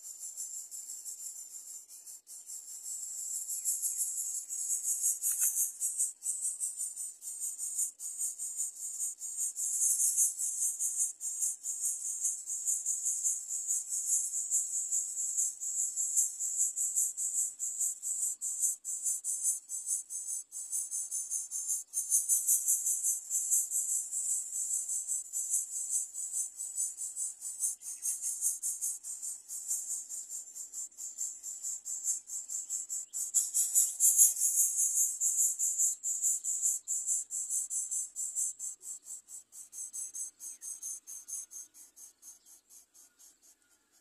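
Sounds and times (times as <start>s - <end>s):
insects chirring: 2.0s - 43.8s.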